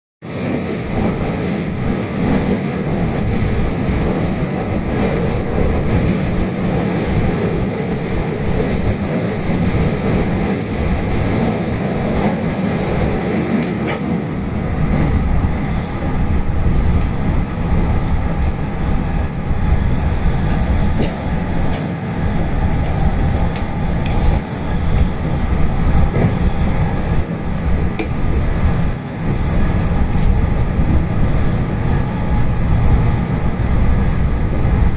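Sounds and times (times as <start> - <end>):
train wheels rumbling on track: 0.2 - 34.9.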